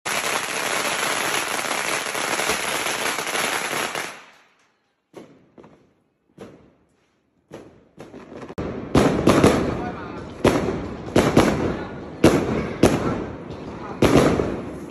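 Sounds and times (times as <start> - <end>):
firecrackers crackling: 0.0 - 14.9.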